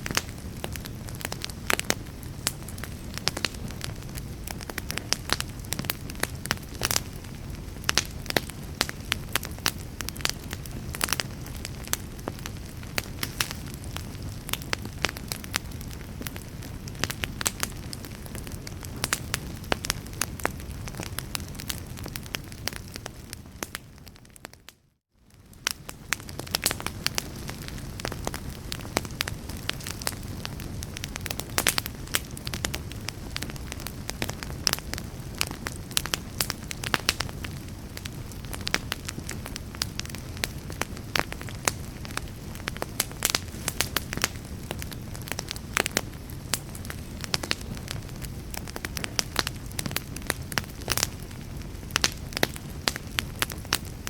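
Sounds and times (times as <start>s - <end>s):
sharp pops from fire: 0.0s - 24.7s, 25.3s - 54.0s
fire rumble and hiss: 0.0s - 54.0s
wood fire crackling: 0.0s - 54.0s.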